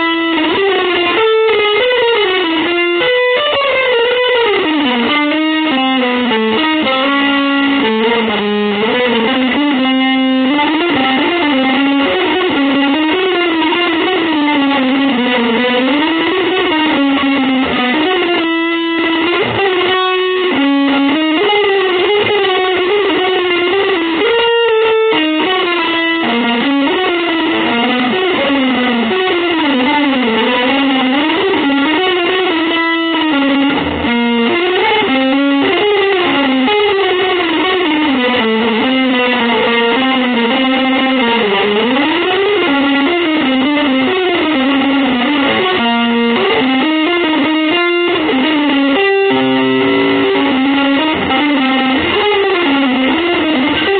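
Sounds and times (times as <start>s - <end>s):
electric guitar single-note lines: 0.0s - 53.9s.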